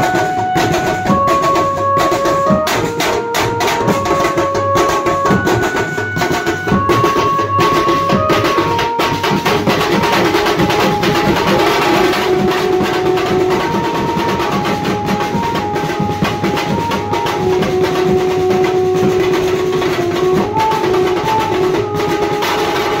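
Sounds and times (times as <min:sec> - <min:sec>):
fast steady drumming: 0:00.0 - 0:23.0
melody of held notes: 0:00.0 - 0:23.0.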